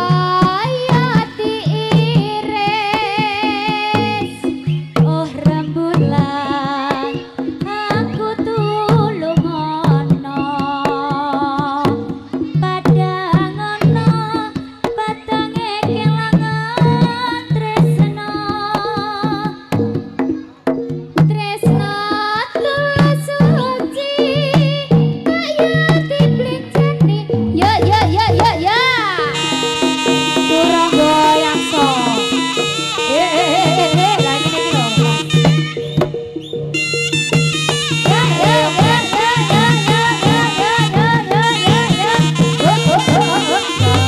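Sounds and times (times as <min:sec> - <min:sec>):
hand drums beating: 0:00.0 - 0:44.0
ornamented melody line: 0:00.0 - 0:44.0.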